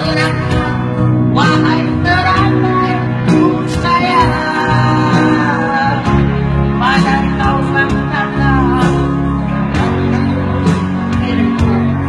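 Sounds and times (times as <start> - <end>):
pop ballad guitar and bass: 0.0 - 12.0.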